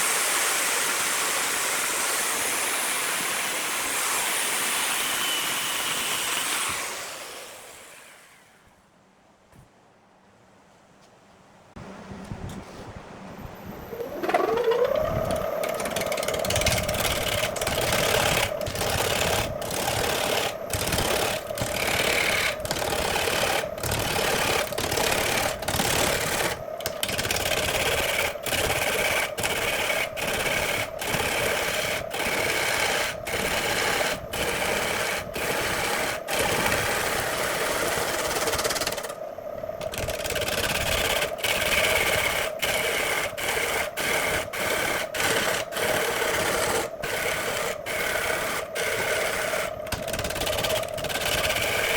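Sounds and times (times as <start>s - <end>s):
power tool motor humming: 0.0s - 8.5s, 14.1s - 39.1s, 39.8s - 51.9s
workpiece noise: 0.0s - 8.8s, 11.8s - 51.9s.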